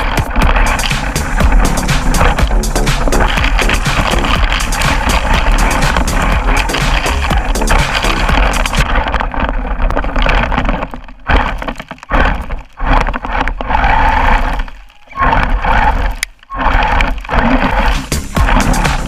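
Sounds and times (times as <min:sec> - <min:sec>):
toy truck crunching and rattling: 0:00.0 - 0:19.0.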